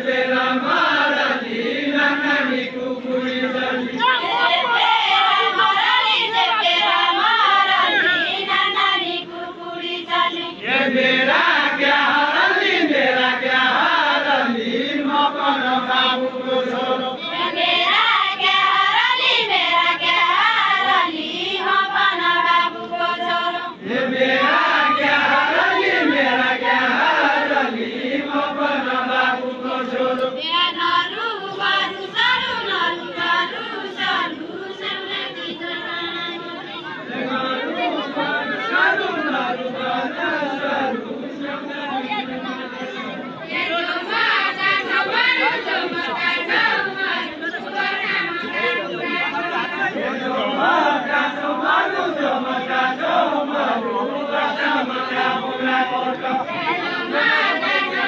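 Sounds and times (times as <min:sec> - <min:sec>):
men chanting folk song: 0:00.0 - 0:58.0.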